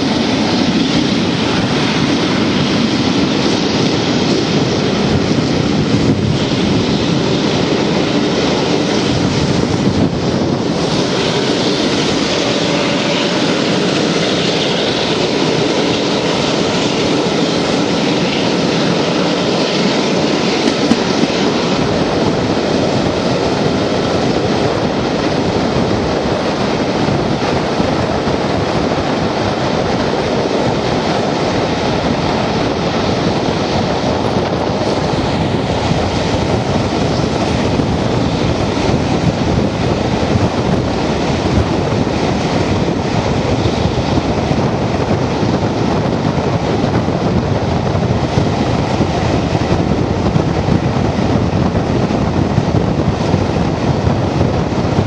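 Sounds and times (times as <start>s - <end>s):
train running at speed: 0.0s - 55.0s
wind rushing over microphone: 0.0s - 55.0s.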